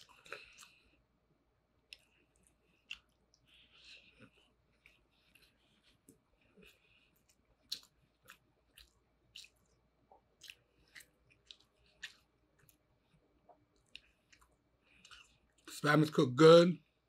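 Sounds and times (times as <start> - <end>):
chewing mouth clicks and smacks: 0.0 - 0.8, 1.8 - 15.8.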